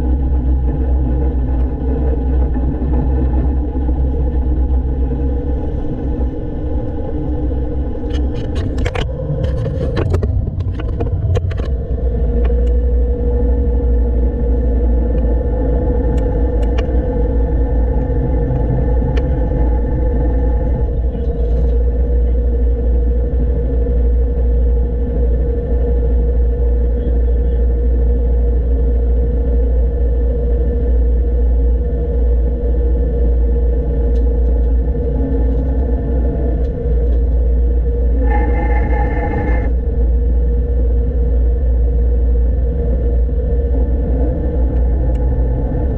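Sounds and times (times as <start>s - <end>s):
diesel engine rumbling: 0.0s - 29.4s, 30.0s - 45.9s.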